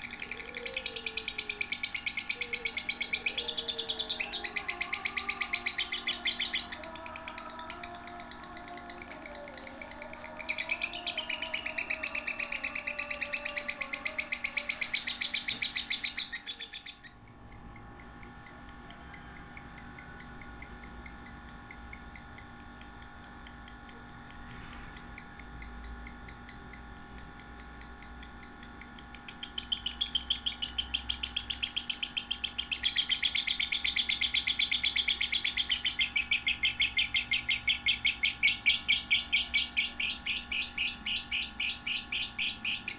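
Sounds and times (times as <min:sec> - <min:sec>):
lovebird chirping: 0:00.0 - 0:42.9.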